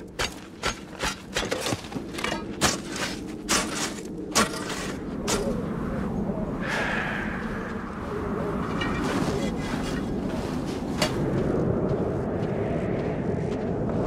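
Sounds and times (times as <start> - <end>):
steady low drone: 0.0 - 14.0.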